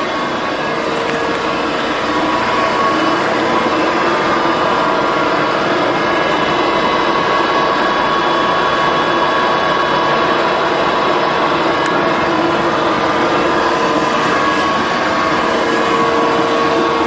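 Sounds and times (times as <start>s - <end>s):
mixer machine running: 0.0s - 17.0s.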